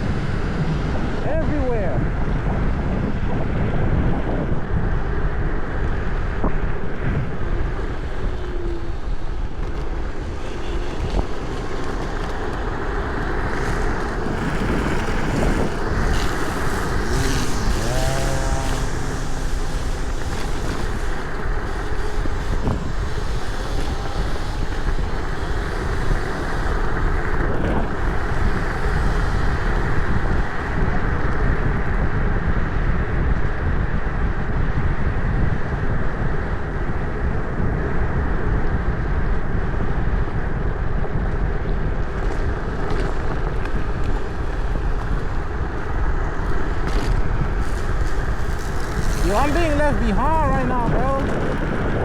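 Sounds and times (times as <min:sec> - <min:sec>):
scooter ride rumble: 0:00.0 - 0:52.0
wind buffeting microphone: 0:00.0 - 0:52.0.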